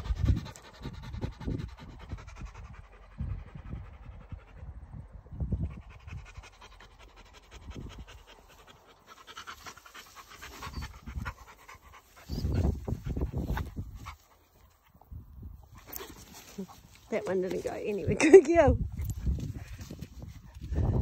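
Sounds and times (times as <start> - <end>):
dogs panting: 0.0 - 18.0.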